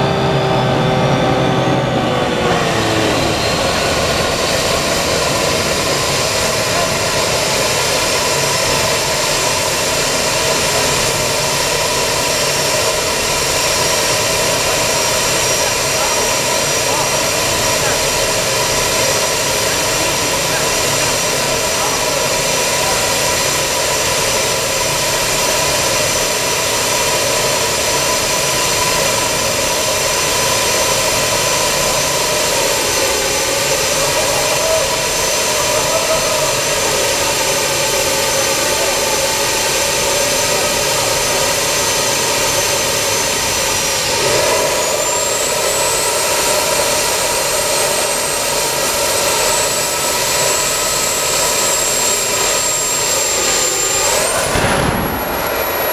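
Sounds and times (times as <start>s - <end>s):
gas turbine engine whining: 0.0s - 55.9s.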